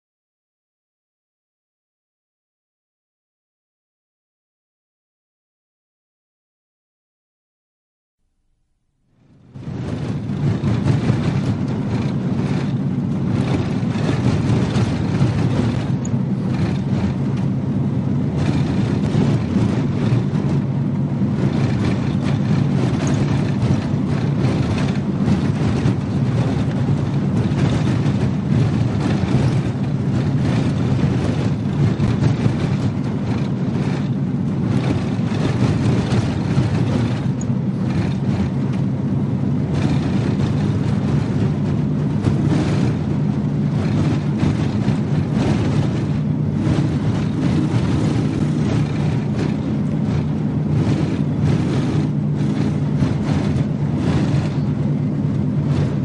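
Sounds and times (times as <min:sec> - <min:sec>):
vehicle engine and road noise: 0:08.3 - 0:56.0.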